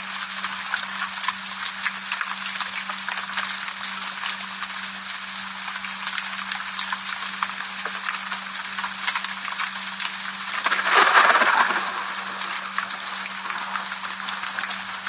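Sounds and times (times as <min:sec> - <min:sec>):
faint steady hum: 0:00.0 - 0:15.0
rain falling: 0:00.0 - 0:15.0
raindrops ticking: 0:00.1 - 0:15.0.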